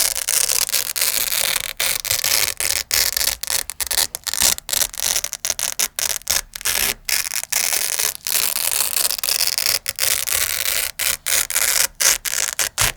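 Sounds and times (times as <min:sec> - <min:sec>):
velcro strips ripping: 0:00.0 - 0:12.9.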